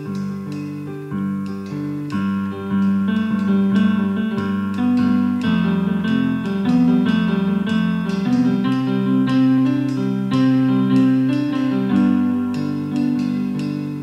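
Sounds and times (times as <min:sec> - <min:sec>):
bass line: 0:00.0 - 0:14.0
plucked string melody: 0:00.0 - 0:14.0.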